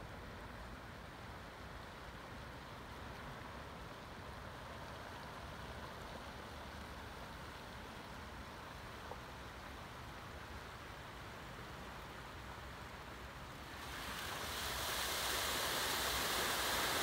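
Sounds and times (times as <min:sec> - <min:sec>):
shallow flood water rushing: 0:00.8 - 0:17.0.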